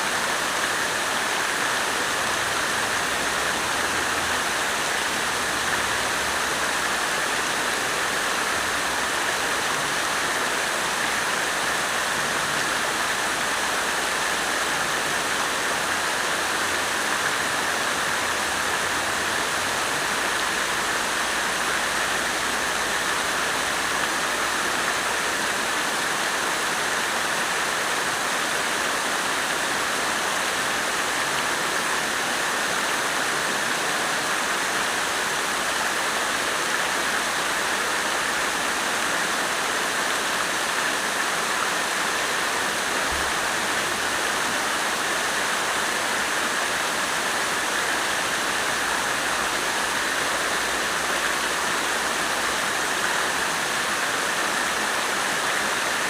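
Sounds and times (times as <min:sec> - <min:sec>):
water fountain splashing: 0:00.0 - 0:56.0.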